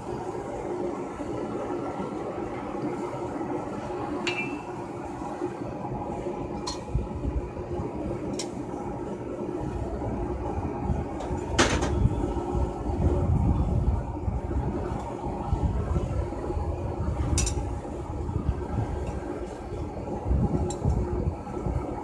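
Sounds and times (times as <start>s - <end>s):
steady machine whir: 0.0s - 22.0s.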